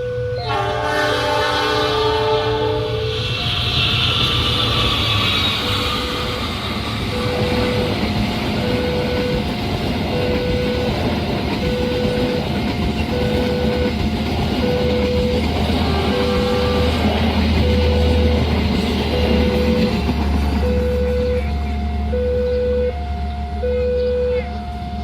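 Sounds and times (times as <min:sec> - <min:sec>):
level crossing alarm two-tone: 0:00.0 - 0:01.4, 0:05.5 - 0:25.0
passing train rumble: 0:00.0 - 0:25.0.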